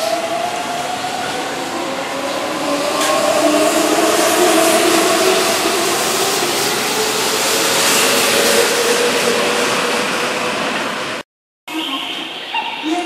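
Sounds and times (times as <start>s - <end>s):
electric train running past: 0.0s - 11.2s.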